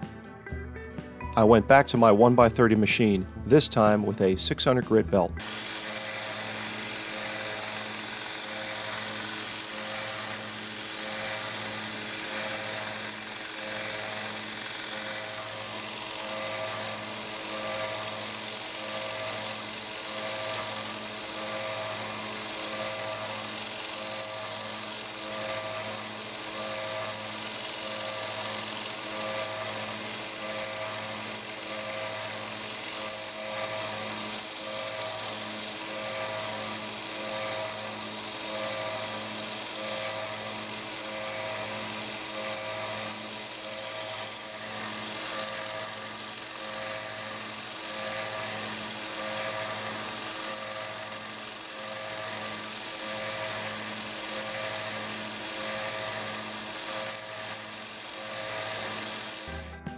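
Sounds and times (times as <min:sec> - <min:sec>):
steel hissing on sanding belt: 0:05.4 - 0:59.6
belt sander motor hum: 0:05.4 - 0:59.8.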